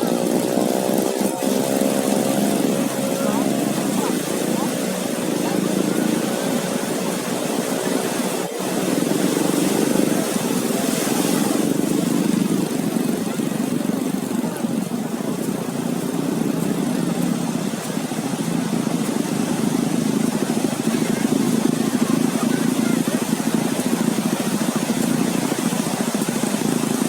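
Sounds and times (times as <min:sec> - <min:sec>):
passing traffic hum: 0:00.0 - 0:27.0
surf washing: 0:00.0 - 0:27.0.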